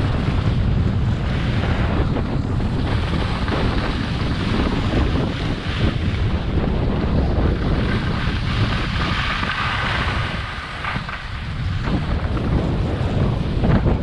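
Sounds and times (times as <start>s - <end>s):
skis sliding over snow: 0.0s - 14.0s
wind buffeting microphone: 0.0s - 14.0s.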